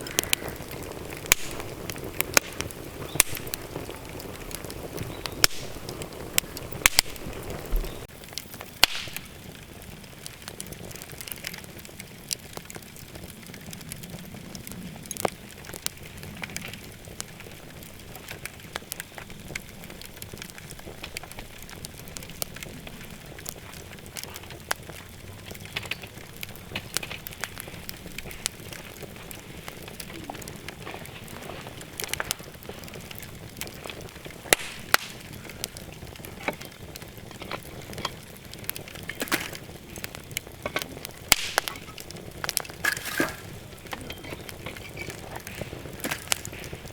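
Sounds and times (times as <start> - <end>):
firewood crackling and popping: 0.0 - 46.9.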